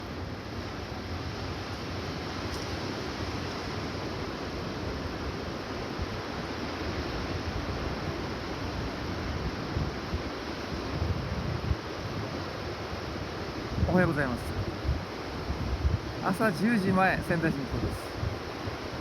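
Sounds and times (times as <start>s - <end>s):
surf at the shore: 0.0s - 19.0s
wind on microphone: 2.9s - 19.0s.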